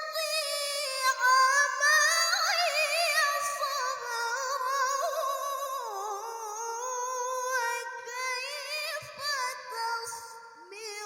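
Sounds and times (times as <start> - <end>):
woman chanting recitation: 0.0 - 11.0.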